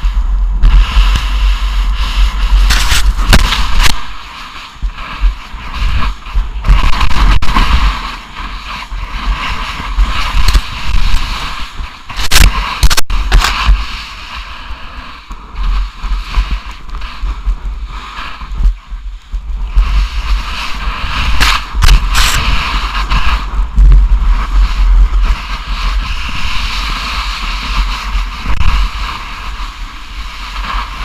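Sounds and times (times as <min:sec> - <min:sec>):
snow spraying hiss: 0:00.0 - 0:31.0
wind buffeting microphone: 0:00.0 - 0:31.0.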